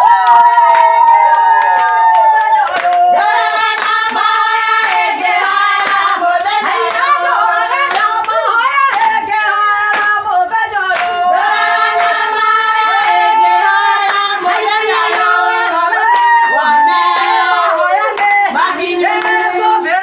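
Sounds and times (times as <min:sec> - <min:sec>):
women singing together: 0:00.0 - 0:20.0
hand claps: 0:00.1 - 0:10.3, 0:11.0 - 0:13.4, 0:14.0 - 0:16.5, 0:17.1 - 0:17.4, 0:18.0 - 0:18.5, 0:19.1 - 0:19.7.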